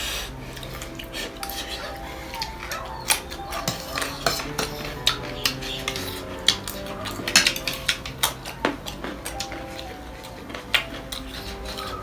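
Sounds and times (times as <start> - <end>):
background music: 0.0 - 12.0
cutlery clinking on a plate: 0.5 - 12.0.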